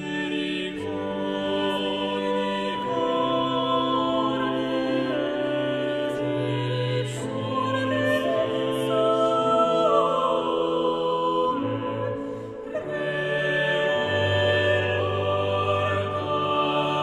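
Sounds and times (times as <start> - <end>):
slow classical music: 0.0 - 17.0.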